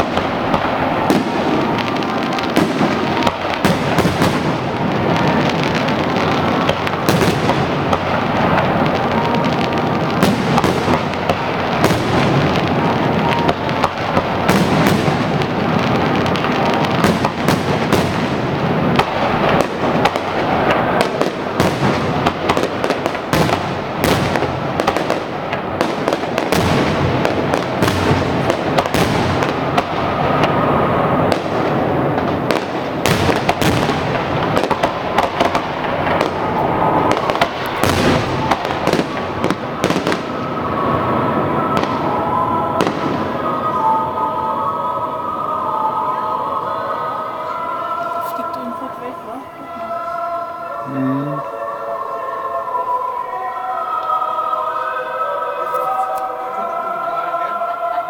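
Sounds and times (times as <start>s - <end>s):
fireworks banging: 0.0s - 53.2s.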